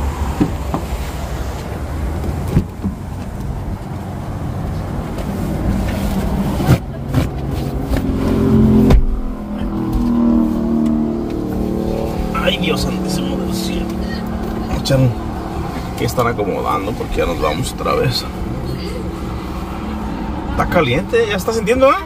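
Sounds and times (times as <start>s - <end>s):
car engine driving off: 0.0s - 22.0s
low road rumble: 0.0s - 22.0s.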